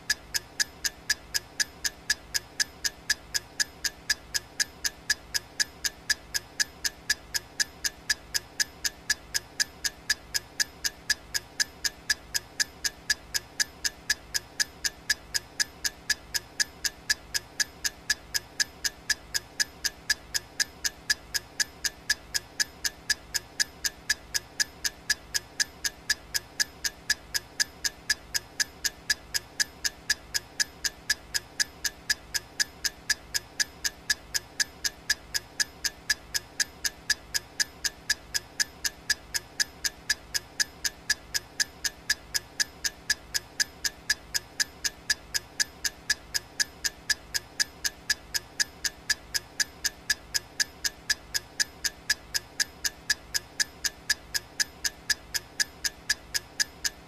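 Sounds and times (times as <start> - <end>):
countdown timer ticking: 0.0 - 57.0.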